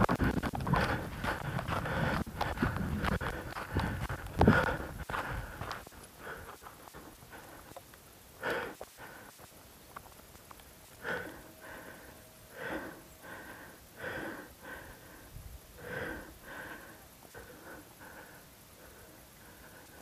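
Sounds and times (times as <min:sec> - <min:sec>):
person breathing hard: 0:00.0 - 0:07.8, 0:08.4 - 0:09.6, 0:10.9 - 0:20.0.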